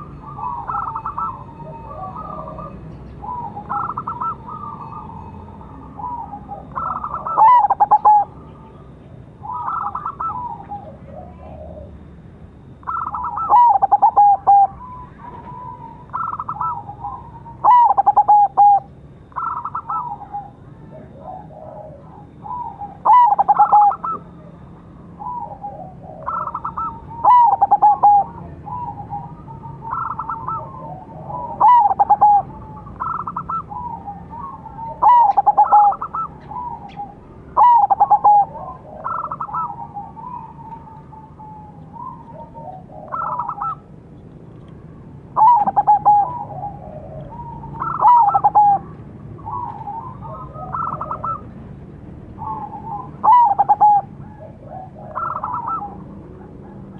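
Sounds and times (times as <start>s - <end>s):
dove cooing: 0.0s - 44.0s, 44.7s - 56.9s.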